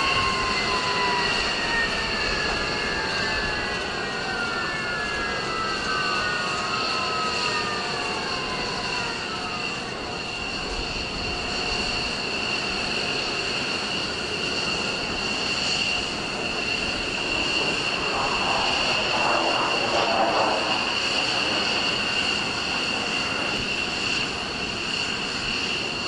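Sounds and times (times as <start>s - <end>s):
descending engine whines: 0.0s - 26.0s
jet engines idling: 0.0s - 26.0s.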